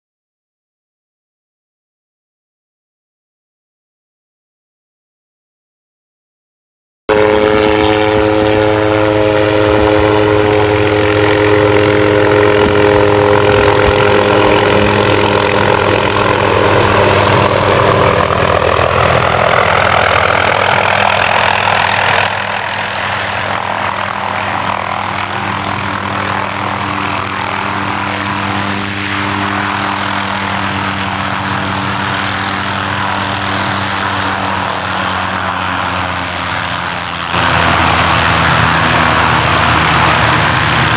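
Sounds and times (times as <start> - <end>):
helicopter engine and rotor: 7.1 - 40.9.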